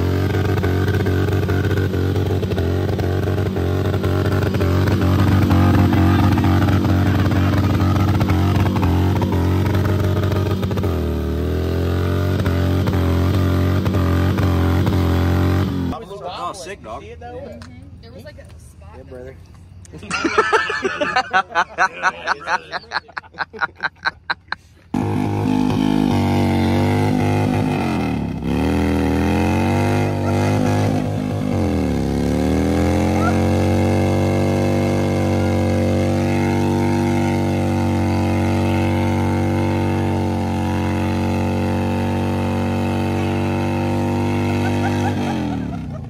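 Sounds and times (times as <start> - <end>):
motorcycle engine revving: 0.0 - 16.0, 24.9 - 46.0.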